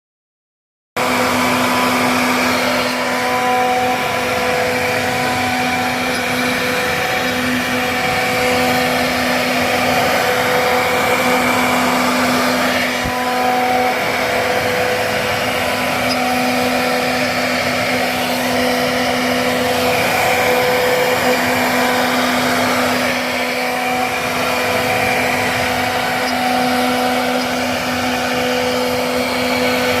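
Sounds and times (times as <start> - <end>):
machine whine: 1.0 - 30.0
woodworking machine whirring: 1.0 - 30.0.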